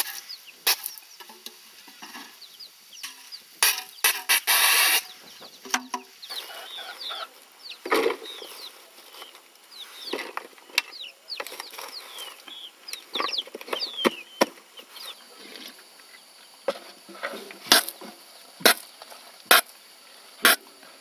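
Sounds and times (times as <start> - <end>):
chicken clucking: 0.0 - 4.2, 4.9 - 18.2
chicks peeping: 0.0 - 18.6.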